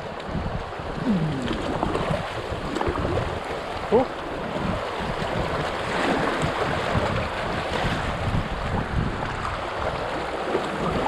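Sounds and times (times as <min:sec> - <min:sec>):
water rushing over gravel: 0:00.0 - 0:11.0
wind on microphone: 0:00.0 - 0:11.0.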